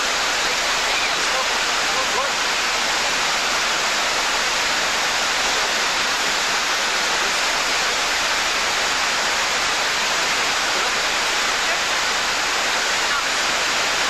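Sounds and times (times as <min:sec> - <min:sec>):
water rushing down a weir: 0:00.0 - 0:14.0.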